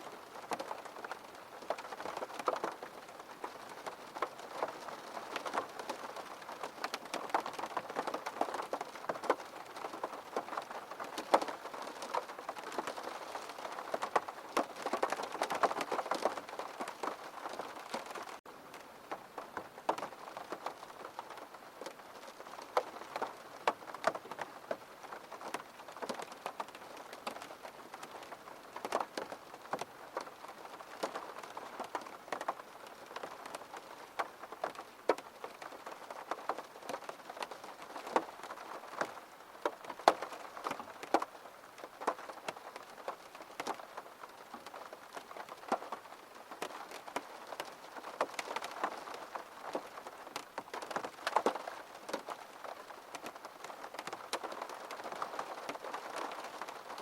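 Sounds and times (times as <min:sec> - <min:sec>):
raindrops striking a surface: 0:00.0 - 0:57.0.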